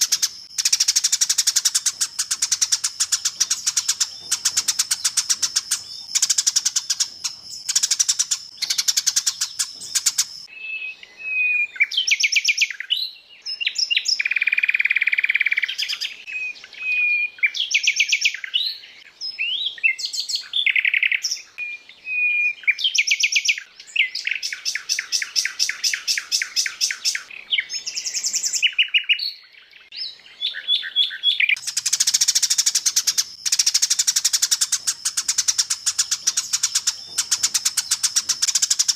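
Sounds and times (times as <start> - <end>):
recorded songbird song: 0.0 - 38.9.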